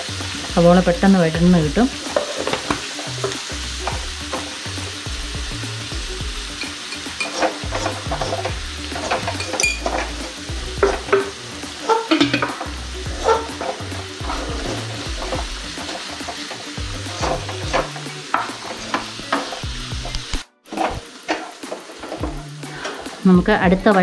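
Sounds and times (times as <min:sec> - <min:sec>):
onions sizzling in oil: 0:00.0 - 0:24.0
spoon scraping a pan: 0:02.0 - 0:04.6, 0:06.6 - 0:23.2.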